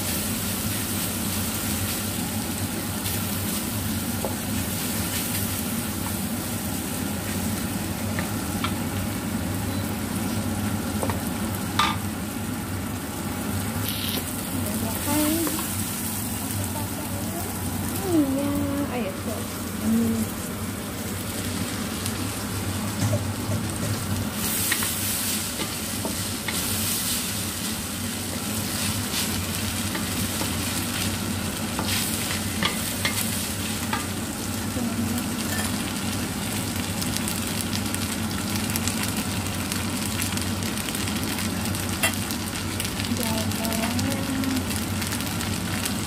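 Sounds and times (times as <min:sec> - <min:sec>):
food sizzling in a wok: 0:00.0 - 0:46.0.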